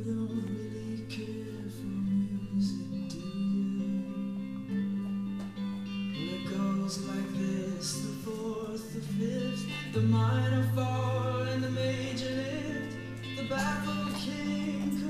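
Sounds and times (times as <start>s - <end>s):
recorded song with singing: 0.0s - 15.0s.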